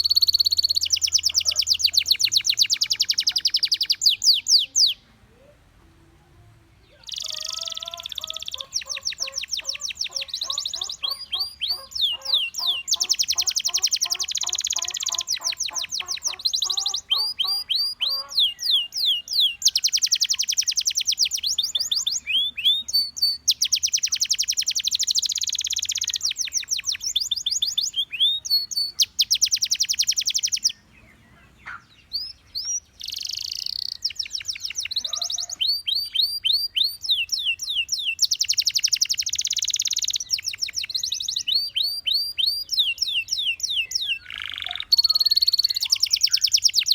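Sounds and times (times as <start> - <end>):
canary singing trills: 0.0 - 5.7, 6.7 - 46.9.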